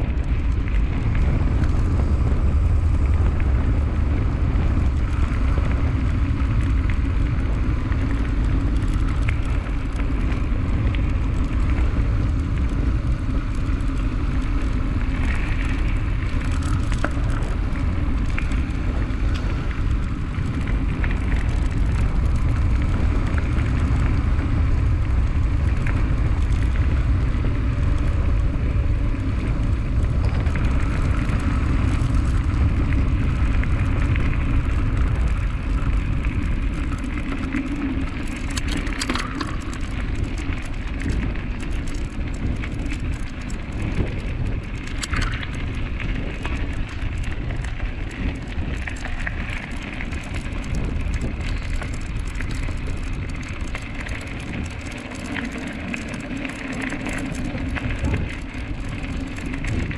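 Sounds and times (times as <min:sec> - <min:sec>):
bike ticks and rattles: 0:00.0 - 0:59.9
bike tyres rolling: 0:00.0 - 0:59.9
wind rumble on microphone: 0:00.0 - 0:59.9.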